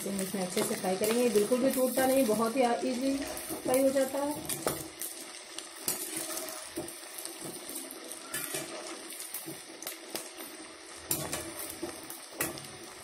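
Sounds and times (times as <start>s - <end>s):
oil bubbling and sizzling: 0.0s - 13.0s.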